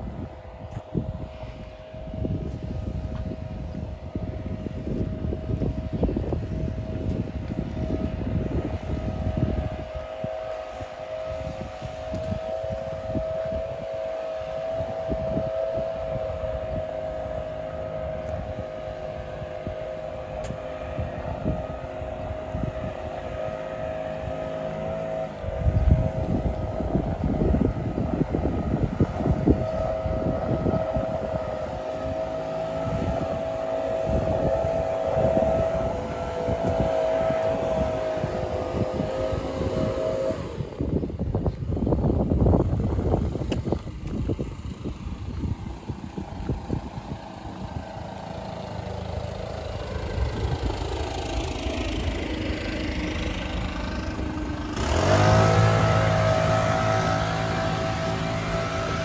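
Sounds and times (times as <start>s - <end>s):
drone propeller hum: 0.0s - 59.0s
wind buffeting microphone: 0.0s - 59.0s.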